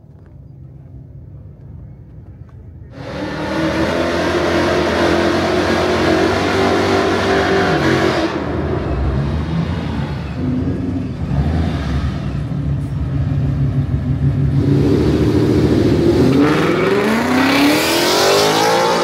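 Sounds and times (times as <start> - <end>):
car engine revving: 2.9 - 19.0.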